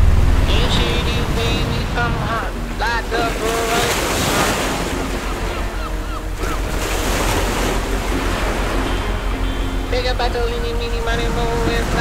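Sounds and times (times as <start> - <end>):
ocean surf breaking on beach: 0.0 - 12.0
wind rumbling on microphone: 0.0 - 12.0.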